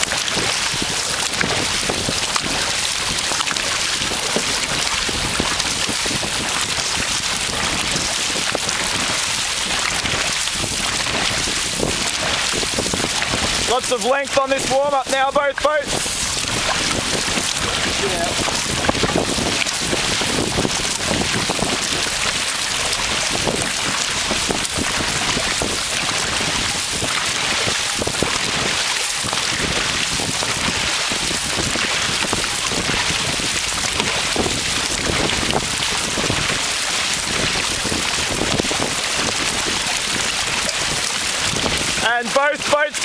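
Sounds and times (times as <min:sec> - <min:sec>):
water rushing and splashing: 0:00.0 - 0:43.0
wind noise on microphone: 0:00.0 - 0:43.0.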